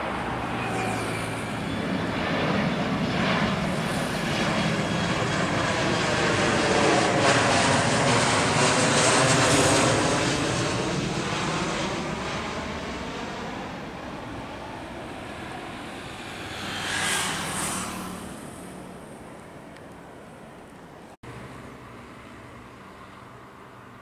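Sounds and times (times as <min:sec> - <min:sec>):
jet plane passing overhead: 0:00.0 - 0:24.0.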